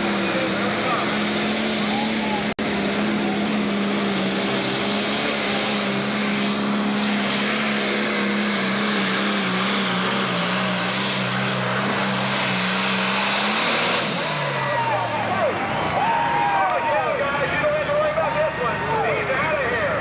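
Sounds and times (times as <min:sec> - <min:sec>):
diesel engine roaring under load: 0:00.0 - 0:20.0
heavy rushing noise: 0:00.0 - 0:20.0.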